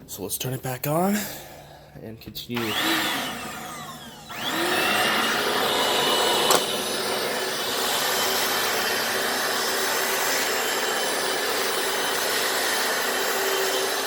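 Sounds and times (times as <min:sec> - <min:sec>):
floor cleaner motor whine: 0:02.6 - 0:14.0.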